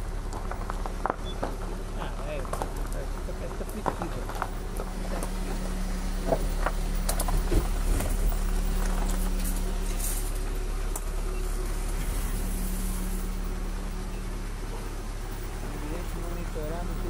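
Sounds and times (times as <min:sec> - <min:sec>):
car engine humming: 0:00.0 - 0:17.0
tyres rolling over dirt: 0:00.0 - 0:17.0.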